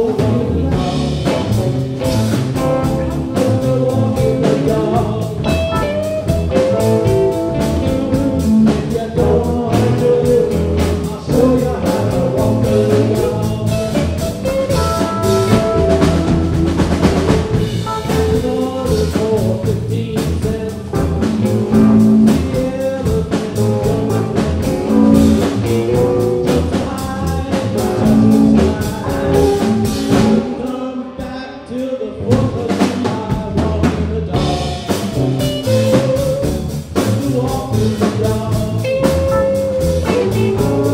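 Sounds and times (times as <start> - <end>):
electric bass: 0.0 - 30.9, 32.1 - 40.9
electric guitars: 0.0 - 31.3, 34.2 - 40.9
drum kit: 0.0 - 31.4, 32.2 - 40.9.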